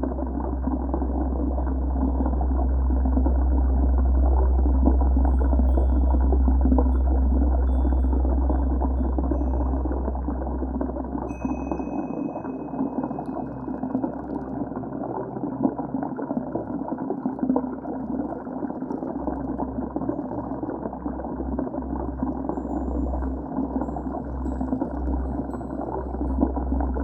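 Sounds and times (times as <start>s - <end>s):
deep rumble: 0.0s - 27.0s
river water heard underwater: 0.0s - 27.0s.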